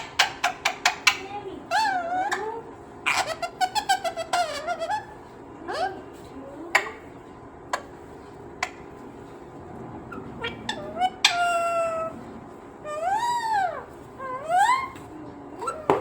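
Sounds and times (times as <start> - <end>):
parrot chirping and squawking: 0.0 - 6.2, 7.7 - 9.0, 10.0 - 16.0.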